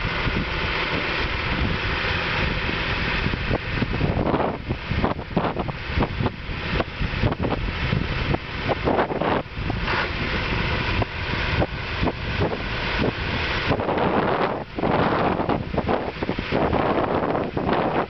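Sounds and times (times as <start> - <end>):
heavy equipment engine running: 0.0 - 18.0
wind buffeting microphone: 0.0 - 18.0.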